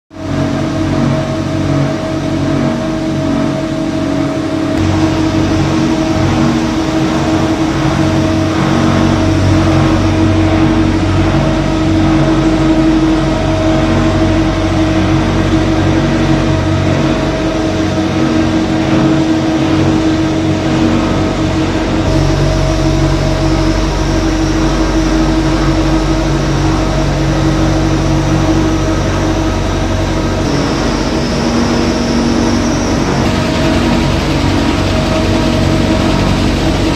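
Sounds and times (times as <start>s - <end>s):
loud industrial machinery hum: 0.1s - 36.9s.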